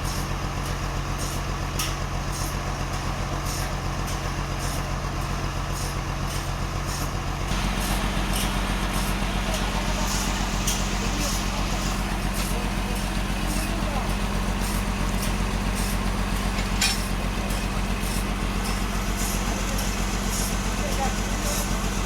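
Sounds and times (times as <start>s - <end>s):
sawmill engine running: 0.2s - 22.0s.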